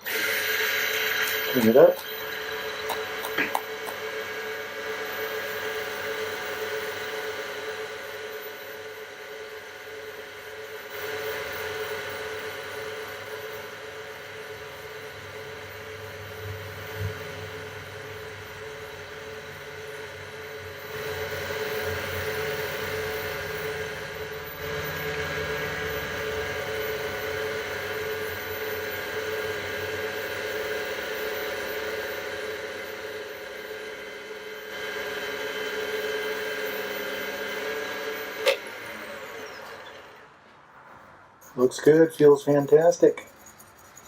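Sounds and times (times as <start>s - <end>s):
wood lathe motor whine: 0.0s - 40.6s, 41.4s - 44.0s.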